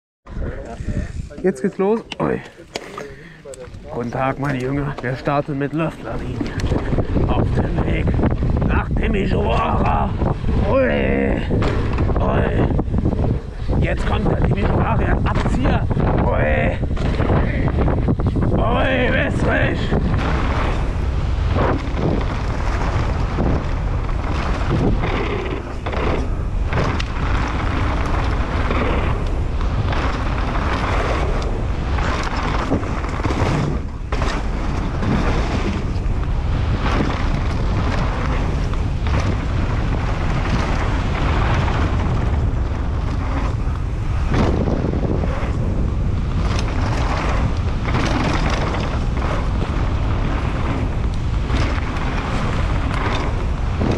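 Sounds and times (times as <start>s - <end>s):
wind buffeting microphone: 0.3s - 53.9s
tyres rumbling on dirt: 0.5s - 53.9s
bike knocking and rattling: 1.2s - 53.9s.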